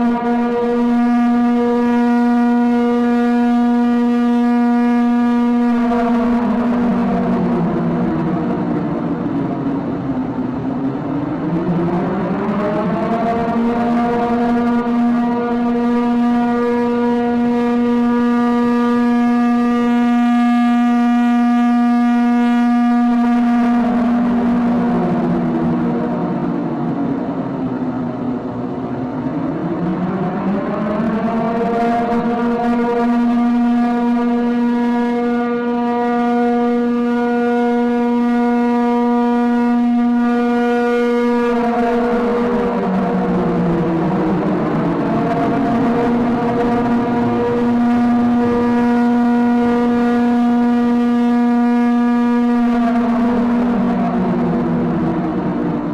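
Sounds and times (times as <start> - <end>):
steady horn-like tone: 0.0 - 55.9
road noise: 5.4 - 19.8, 22.9 - 55.9.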